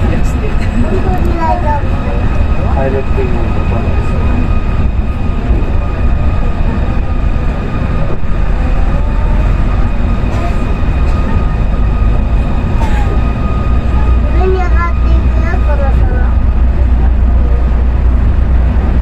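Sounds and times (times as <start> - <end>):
high whine: 0.0 - 19.0
monorail low rumble: 0.0 - 19.0.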